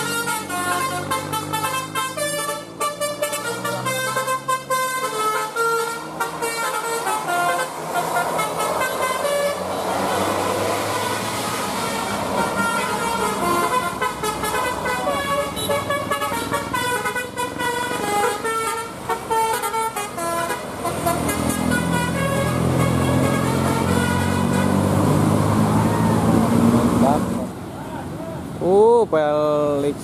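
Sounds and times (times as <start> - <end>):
multi-tone musical bus horn: 0.0 - 26.6
bus passing close: 0.0 - 30.0
diesel bus engine: 0.0 - 30.0.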